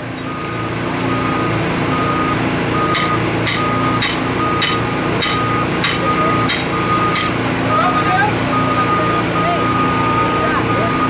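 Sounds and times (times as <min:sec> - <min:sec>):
engine running: 0:00.0 - 0:11.0
backup alarm beeping: 0:00.3 - 0:11.0.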